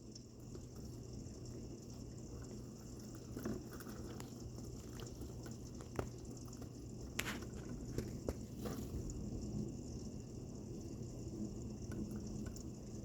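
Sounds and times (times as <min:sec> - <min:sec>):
water drips and taps: 0:00.0 - 0:09.2, 0:11.7 - 0:13.0.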